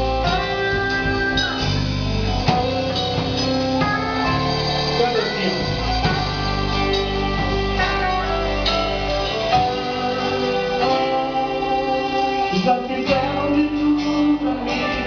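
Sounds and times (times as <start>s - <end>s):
guitar chords: 0.0s - 15.0s
live band instrumental: 0.0s - 15.0s.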